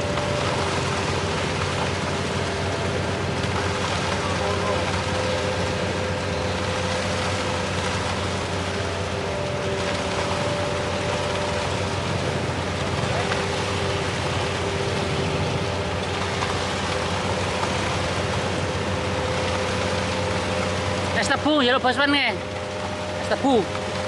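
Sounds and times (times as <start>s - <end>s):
heavy engine running with whine: 0.0s - 24.0s.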